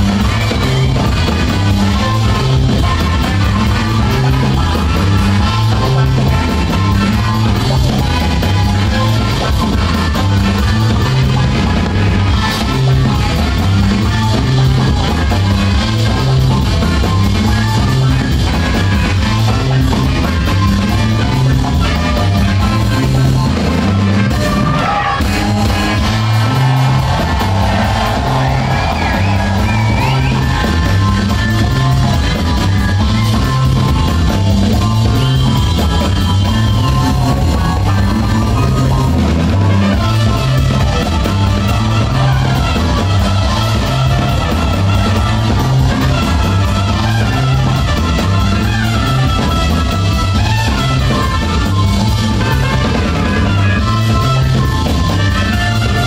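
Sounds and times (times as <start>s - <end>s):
drums keeping time: 0.0s - 56.0s
live jazz band playing: 0.0s - 56.0s
repeating bass line: 0.0s - 56.0s.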